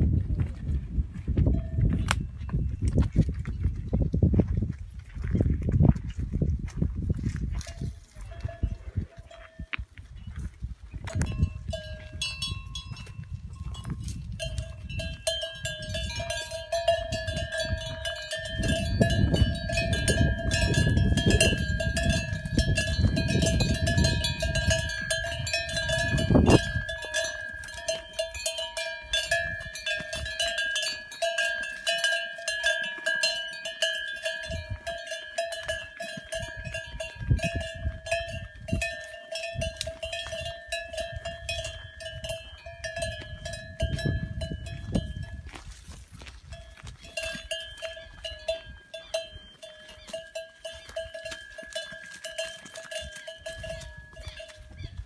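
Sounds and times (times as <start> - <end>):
cattle bells clanking: 1.5 - 2.6, 7.6 - 9.8, 11.0 - 55.0.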